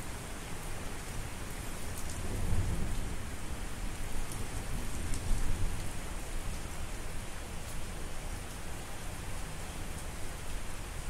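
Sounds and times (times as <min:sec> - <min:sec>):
steady rain hissing: 0:00.0 - 0:11.0.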